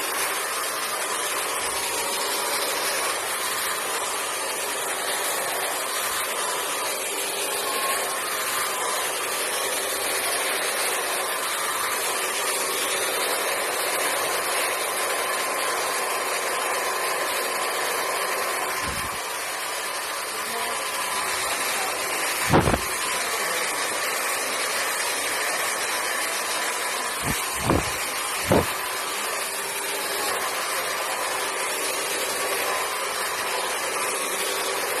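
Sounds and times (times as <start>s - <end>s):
hair dryer blowing: 0.0s - 35.0s.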